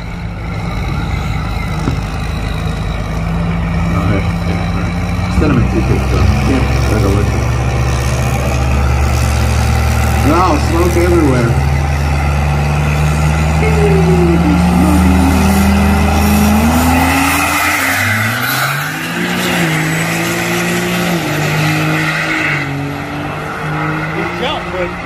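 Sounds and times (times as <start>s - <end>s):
pickup trucks accelerating hard: 0.0s - 25.0s.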